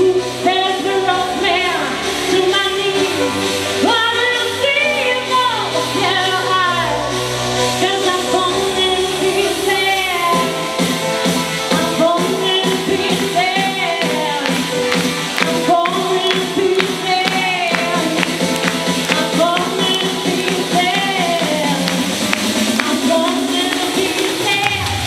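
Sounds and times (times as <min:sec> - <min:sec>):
woman singing into microphone: 0:00.0 - 0:11.0, 0:11.6 - 0:25.0
music with steady beat: 0:00.0 - 0:25.0.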